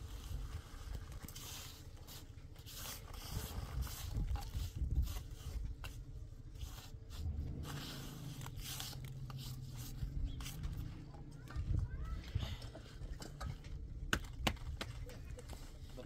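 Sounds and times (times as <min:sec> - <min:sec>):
scraping and rustling: 0:00.0 - 0:14.0.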